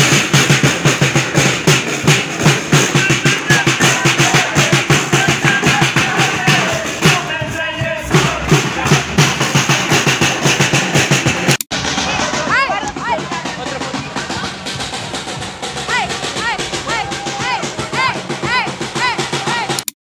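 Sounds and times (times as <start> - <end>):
drum-heavy music: 0.0 - 19.9.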